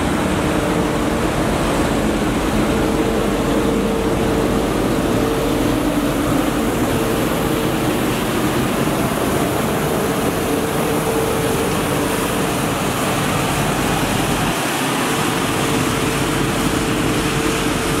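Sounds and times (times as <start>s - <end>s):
constant whine: 0.0s - 18.0s
street sweeper truck rushing noise: 0.0s - 18.0s.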